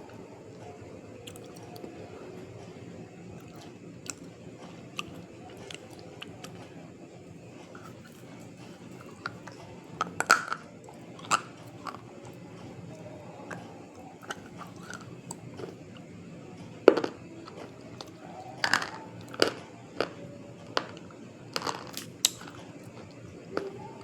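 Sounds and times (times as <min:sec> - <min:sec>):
crunchy chewing: 0:01.2 - 0:02.7, 0:03.3 - 0:24.0.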